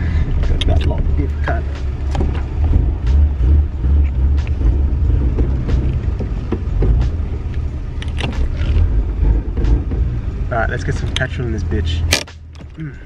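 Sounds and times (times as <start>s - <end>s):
car engine rumble in cabin: 0.0s - 13.0s.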